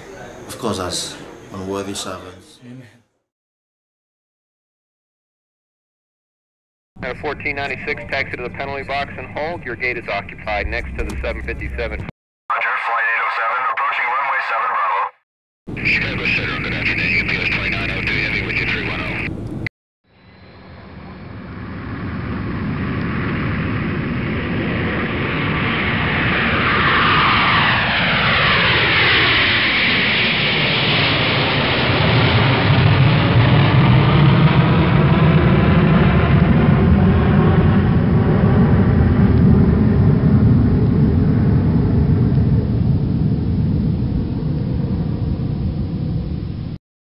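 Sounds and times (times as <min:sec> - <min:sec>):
jet airliner flying past: 0:00.0 - 0:02.4, 0:07.0 - 0:12.1, 0:15.7 - 0:19.6, 0:20.2 - 0:46.8.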